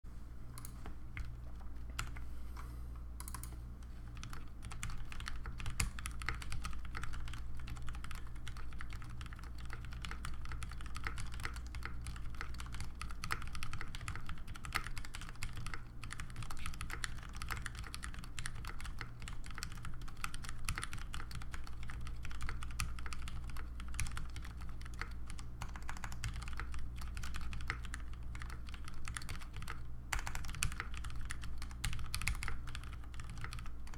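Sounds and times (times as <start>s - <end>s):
mechanical keyboard typing: 3.2s - 33.9s.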